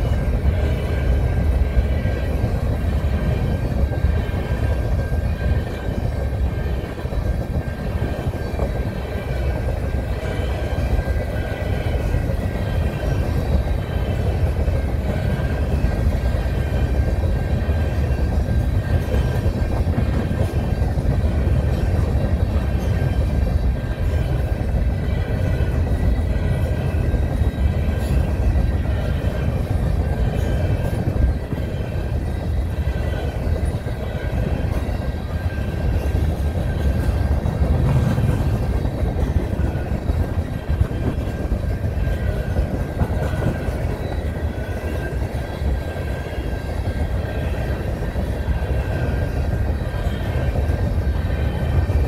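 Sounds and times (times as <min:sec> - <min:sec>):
steel wheels rumbling on rails: 0:00.0 - 0:52.0.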